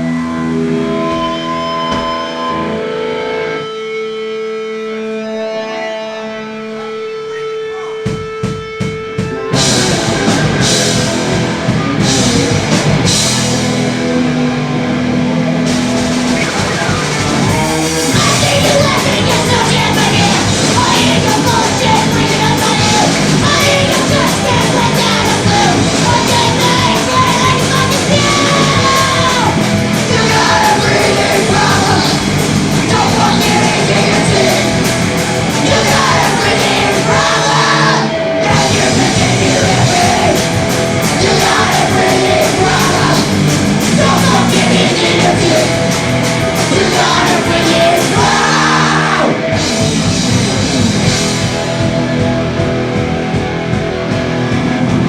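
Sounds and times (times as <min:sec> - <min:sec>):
punk rock band playing: 0:00.0 - 0:55.0.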